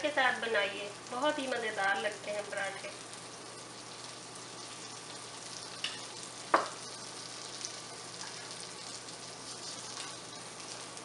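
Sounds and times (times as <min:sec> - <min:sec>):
food sizzling in butter: 0:00.0 - 0:11.0.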